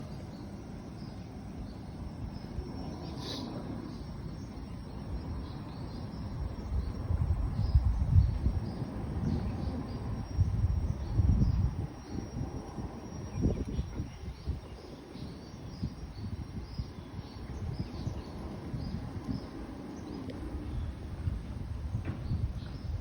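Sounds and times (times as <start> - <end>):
low rumble on microphone: 1.0 - 23.0.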